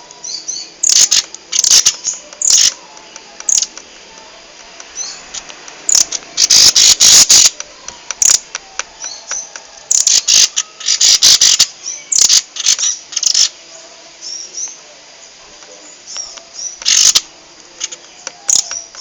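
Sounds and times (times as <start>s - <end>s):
thin high chirps: 0.0s - 3.8s, 4.8s - 13.5s, 15.9s - 19.0s
songbird harsh chattering calls: 0.2s - 4.0s, 4.7s - 13.6s, 14.2s - 19.0s.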